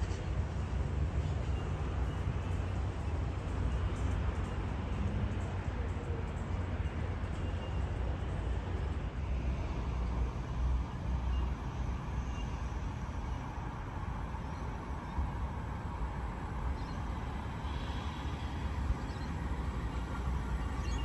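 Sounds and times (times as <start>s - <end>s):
distant train rumble: 0.0s - 21.0s.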